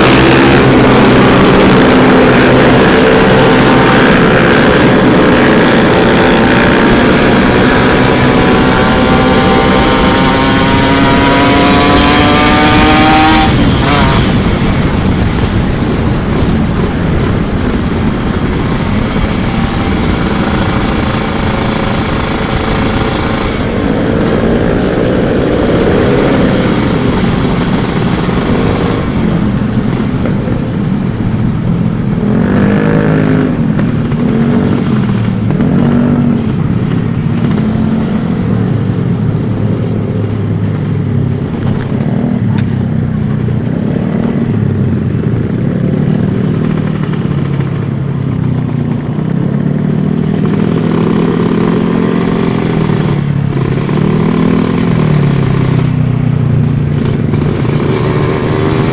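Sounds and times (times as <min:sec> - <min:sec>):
motorcycle engine revving: 0:00.0 - 0:58.9
steady rushing noise: 0:00.0 - 0:58.9.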